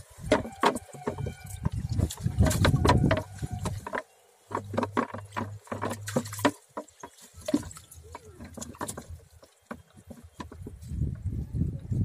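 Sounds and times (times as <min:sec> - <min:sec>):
water splashing and dripping: 0:00.0 - 0:10.8.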